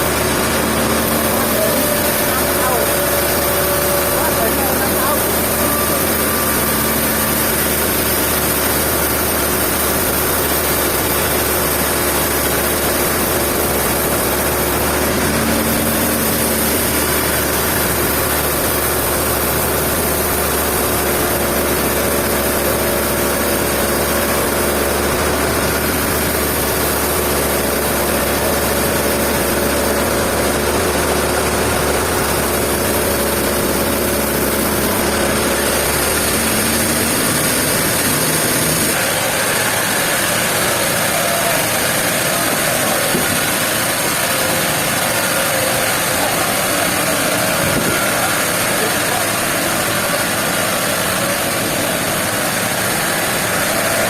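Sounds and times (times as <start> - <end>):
held machine tones: 0.0 - 54.0
sawmill machinery running: 0.0 - 54.0.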